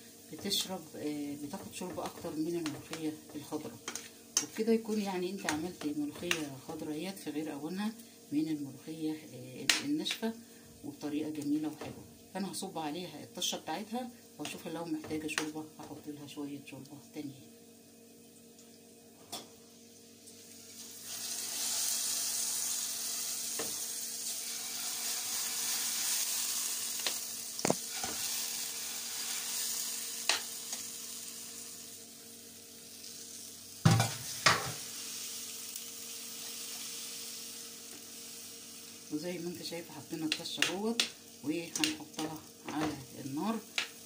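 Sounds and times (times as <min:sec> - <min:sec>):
loud sizzle of hot oil: 0:00.0 - 0:16.2, 0:19.4 - 0:44.0.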